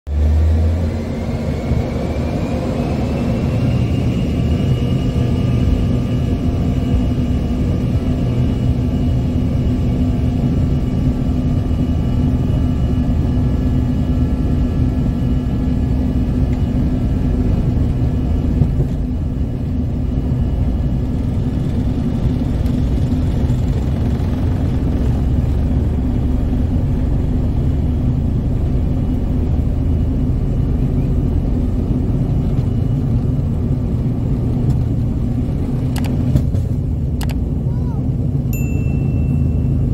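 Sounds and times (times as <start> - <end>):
jet engine whine: 0.1 - 39.9
low engine rumble: 0.2 - 39.9.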